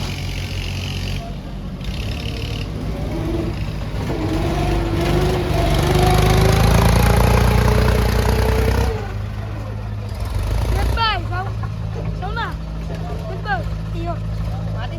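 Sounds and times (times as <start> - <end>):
tractor diesel engine running hard: 0.0 - 14.9.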